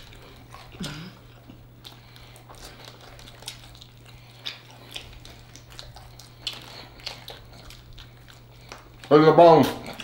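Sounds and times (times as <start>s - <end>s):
faint low hum: 0.0s - 10.0s
wet chewing and lip-smacking: 0.0s - 10.0s.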